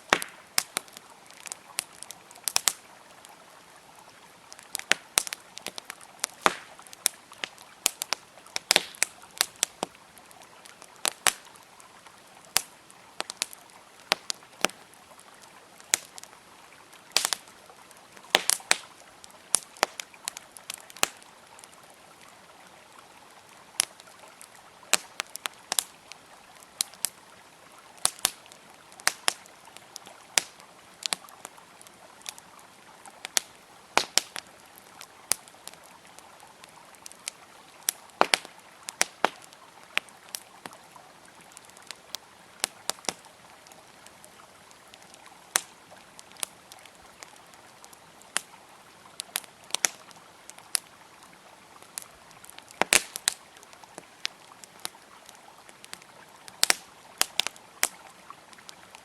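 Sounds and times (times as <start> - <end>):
flowing river: 0.0 - 59.0
wood fire crackling and popping: 0.0 - 59.0.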